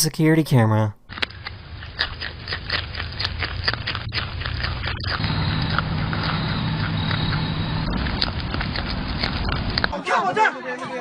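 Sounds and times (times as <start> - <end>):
animal crunching food: 1.1 - 9.9
steady low hum: 1.1 - 9.9.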